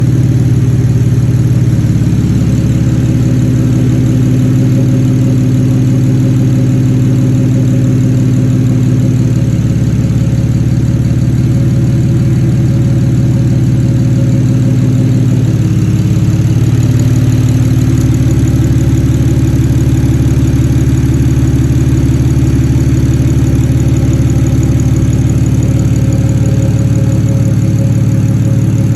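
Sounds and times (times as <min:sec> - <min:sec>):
car engine idling loudly: 0:00.0 - 0:28.9.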